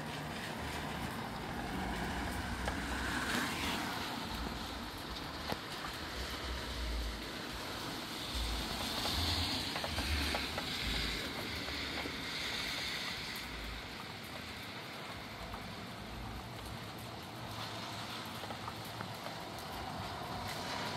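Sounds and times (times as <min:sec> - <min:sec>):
rain falling: 0:00.0 - 0:20.9
wind blowing through trees: 0:00.0 - 0:20.9
wind rumbling on microphone: 0:00.2 - 0:20.9.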